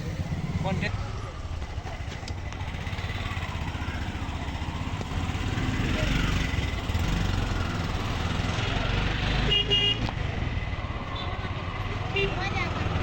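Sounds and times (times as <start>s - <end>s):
traffic noise: 0.0s - 13.0s
vehicle engine and road rumble: 0.0s - 13.0s.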